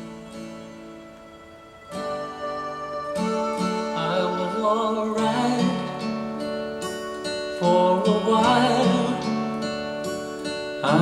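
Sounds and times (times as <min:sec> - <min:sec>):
pop song over speakers: 0:01.7 - 0:11.0.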